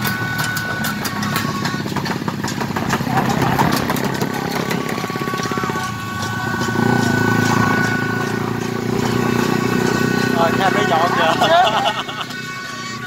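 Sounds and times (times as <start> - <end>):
high horn tone: 0.0 - 13.0
motorbike engines running: 0.0 - 13.0.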